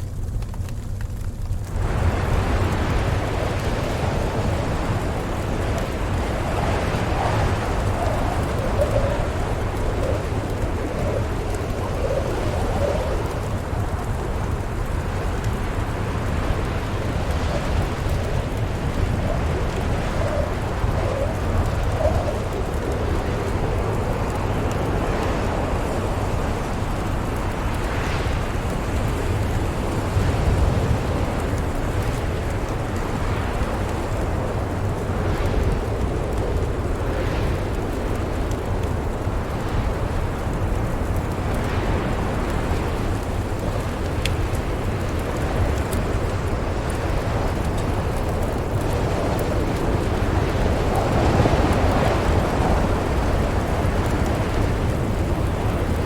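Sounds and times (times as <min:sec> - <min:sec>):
howling storm wind: 0:00.0 - 0:56.0
rain-like hiss: 0:00.0 - 0:56.0
wood fire crackling: 0:00.0 - 0:56.0.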